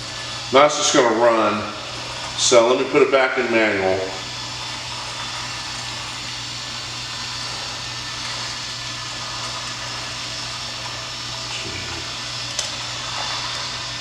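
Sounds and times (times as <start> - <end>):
small electric motors humming: 0.0 - 14.0.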